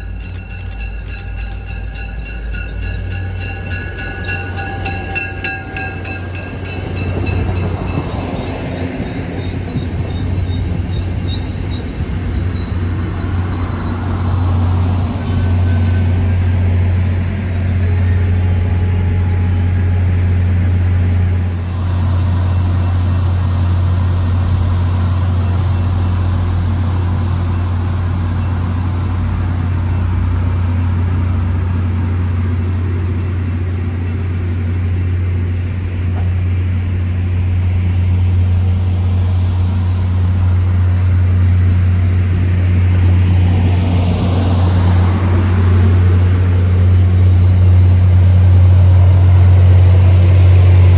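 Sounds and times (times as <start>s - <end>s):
diesel locomotive engine humming: 0.0s - 50.9s.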